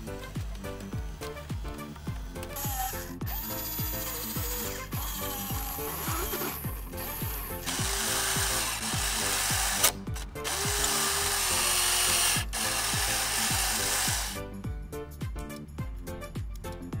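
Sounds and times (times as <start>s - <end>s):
electronic music with thudding beat: 0.0s - 17.0s
electric gear motors whirring: 0.5s - 14.4s.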